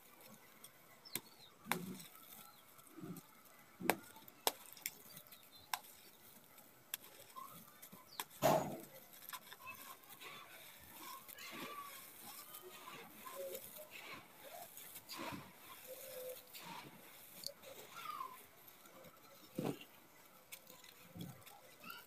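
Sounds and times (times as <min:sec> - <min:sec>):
hands crushing dry dirt: 0:00.0 - 0:22.0.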